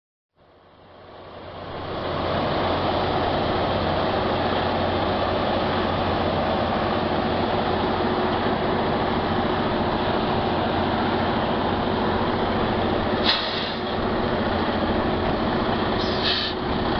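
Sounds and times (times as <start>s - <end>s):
truck diesel engine idling: 0.4s - 16.9s.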